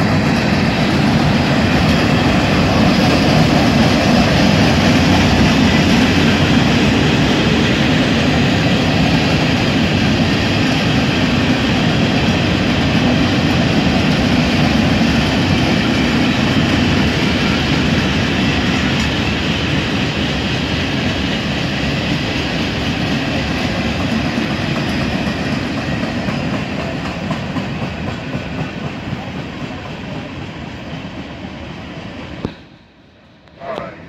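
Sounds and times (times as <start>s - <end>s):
train wheels clattering over rail joints: 0.0s - 30.3s.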